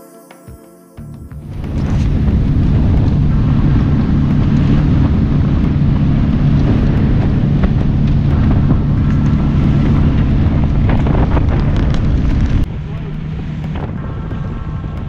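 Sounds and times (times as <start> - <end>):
wind noise on microphone: 1.0 - 15.0
outboard motor running: 1.3 - 15.0.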